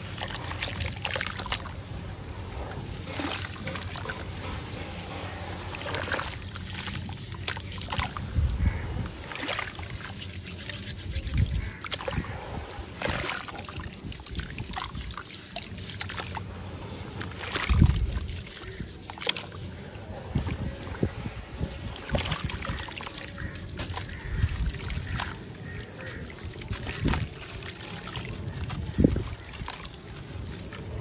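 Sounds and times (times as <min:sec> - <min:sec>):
hands squelching wet sand: 0:00.0 - 0:31.0.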